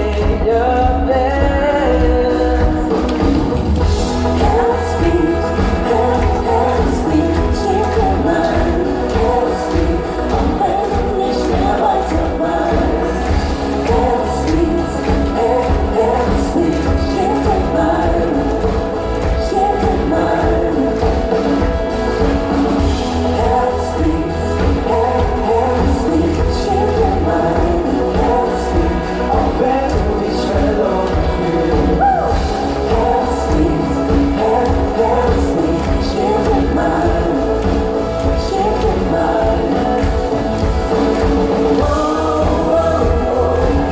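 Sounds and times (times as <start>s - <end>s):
heavy bass line: 0.0s - 43.9s
live pop music with singing: 0.0s - 43.9s.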